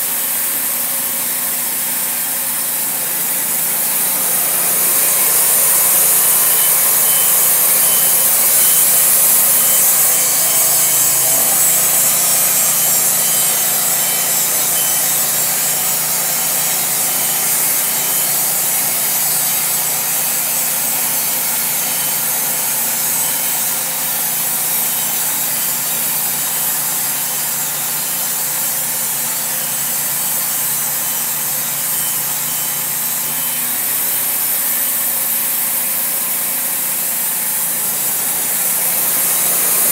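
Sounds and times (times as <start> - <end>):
saw cutting wood hiss: 0.0 - 39.9
sawmill engine: 0.0 - 39.9.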